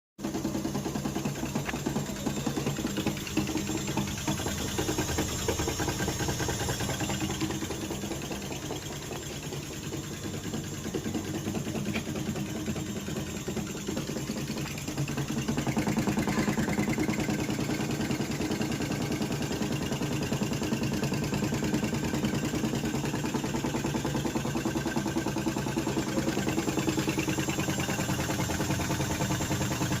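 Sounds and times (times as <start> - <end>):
washing machine rattling: 0.2 - 30.0.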